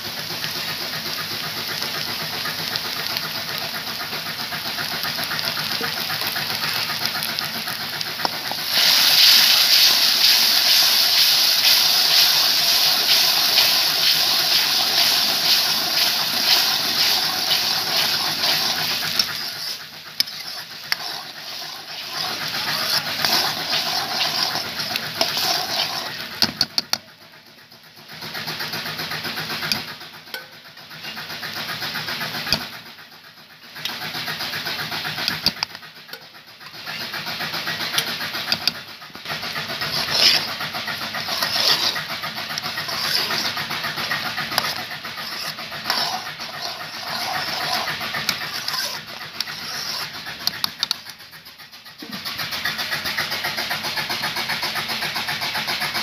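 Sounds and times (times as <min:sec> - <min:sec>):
onions sizzling in hot oil: 0:00.0 - 0:33.0, 0:33.7 - 0:51.4
water hissing in hot pan: 0:00.0 - 0:56.0.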